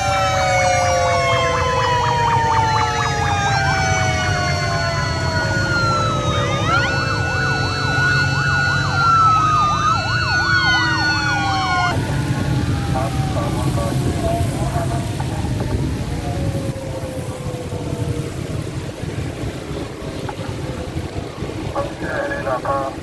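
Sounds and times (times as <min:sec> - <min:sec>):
motorcycle engines running: 0:00.0 - 0:23.0
police motorcycle sirens: 0:00.0 - 0:23.0.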